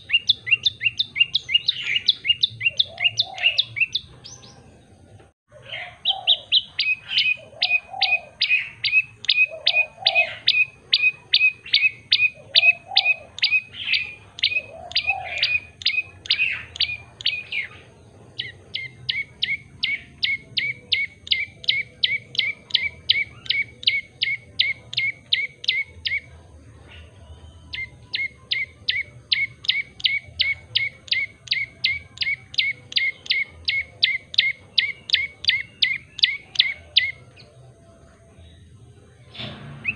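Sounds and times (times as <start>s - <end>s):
lower softer bird calls: 0.0s - 4.7s, 5.6s - 37.6s
bird singing rapid sharp notes: 0.0s - 5.1s, 5.7s - 39.9s.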